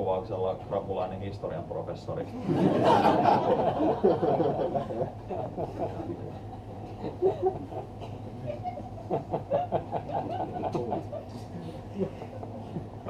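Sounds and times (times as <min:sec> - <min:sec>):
audience laughing: 0:02.4 - 0:13.0.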